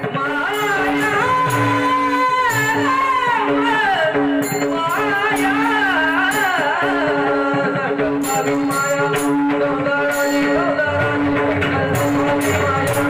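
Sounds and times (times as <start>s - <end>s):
light percussion: 0.0s - 13.0s
person singing devotional melody: 0.0s - 13.0s.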